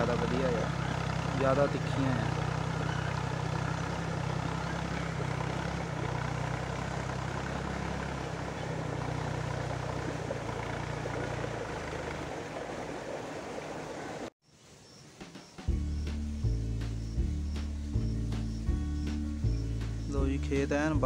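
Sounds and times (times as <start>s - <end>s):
tractor diesel engine hum: 0.0s - 14.3s, 15.7s - 21.0s.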